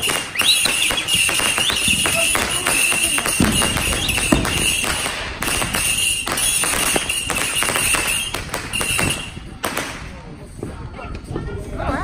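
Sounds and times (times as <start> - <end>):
high firework whistle: 0.0 - 9.8
firework bangs: 0.0 - 10.3
fireworks crackling and popping: 0.0 - 11.4.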